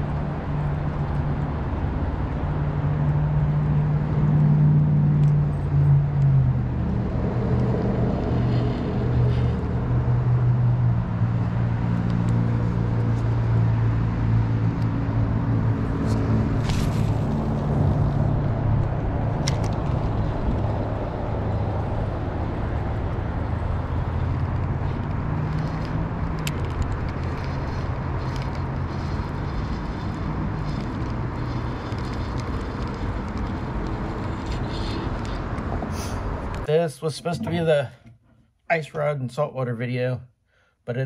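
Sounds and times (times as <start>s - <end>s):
road traffic rumble: 0.0s - 40.1s.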